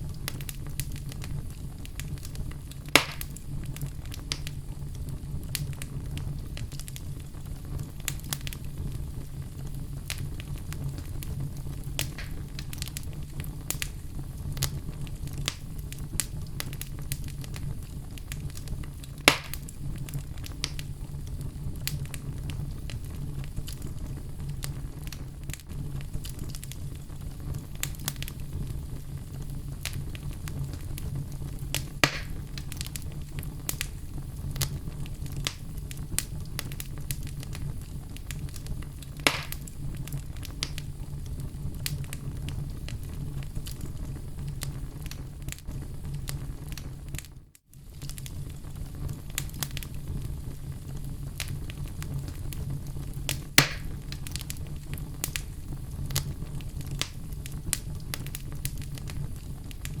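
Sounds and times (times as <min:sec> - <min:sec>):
low rumble of flames: 0:00.0 - 1:00.0
wood fire crackling and popping: 0:00.0 - 1:00.0.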